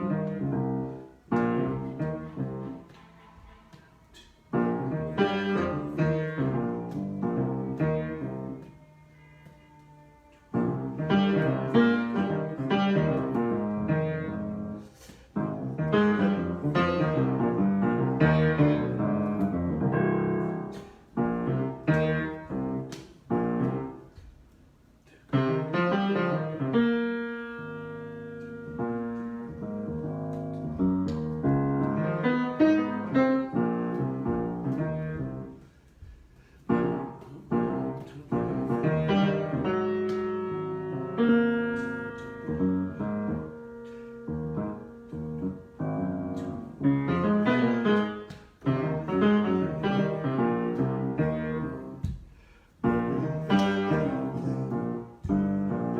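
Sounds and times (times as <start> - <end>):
improvised piano playing: 0.0 - 8.7, 10.5 - 55.9.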